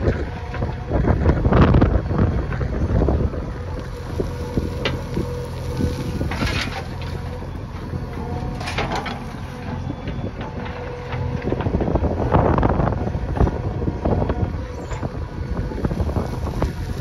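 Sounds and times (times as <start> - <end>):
diesel engine running: 0.0 - 17.0
wind buffeting microphone: 0.0 - 17.0.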